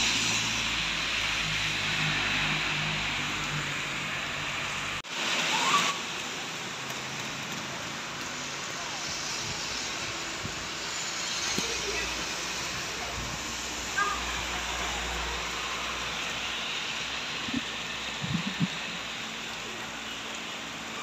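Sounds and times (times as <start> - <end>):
heavy rain on street and rooftops: 0.0 - 21.0.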